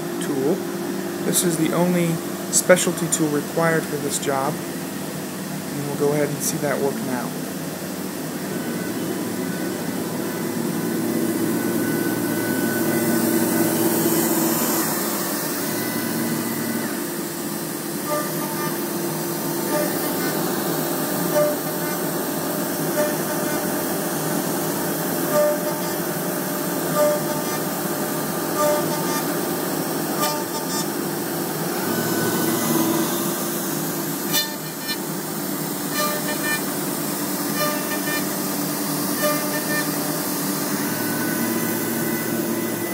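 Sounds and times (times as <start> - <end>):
router spindle whine and hum: 0.0 - 42.9.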